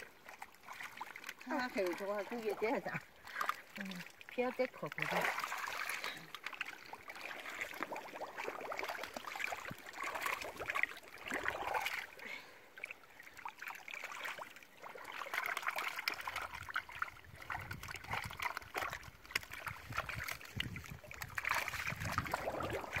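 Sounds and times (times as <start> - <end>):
small wet clicks: 0.0 - 12.1, 12.9 - 23.0
splashing in muddy water: 0.0 - 23.0.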